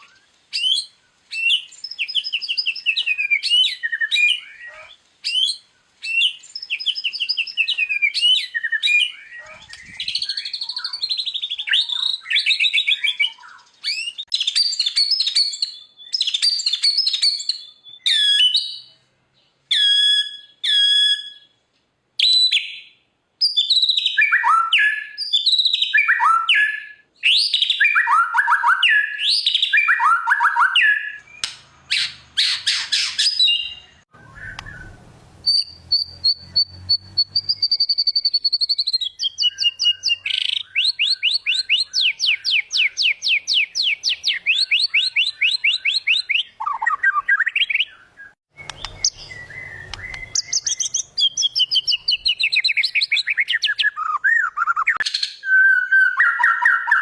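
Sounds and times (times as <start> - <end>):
songbird singing varied song: 0.0 - 21.6, 22.2 - 57.0.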